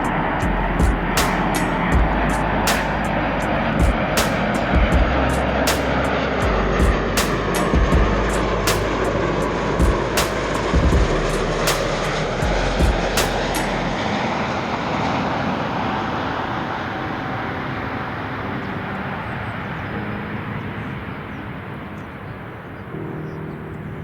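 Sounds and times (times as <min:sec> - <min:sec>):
jet engines rushing past: 0:00.0 - 0:24.0
wind buffeting microphone: 0:00.0 - 0:24.0.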